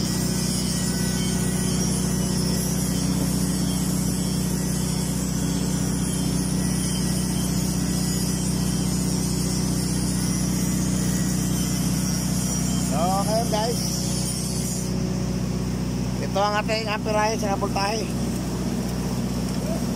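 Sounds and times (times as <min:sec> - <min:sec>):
welding machine hum: 0:00.0 - 0:19.9.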